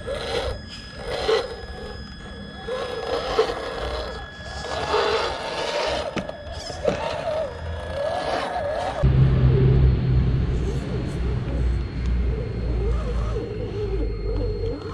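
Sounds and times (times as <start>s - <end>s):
electric motor whining: 0.0s - 9.1s, 9.9s - 14.9s.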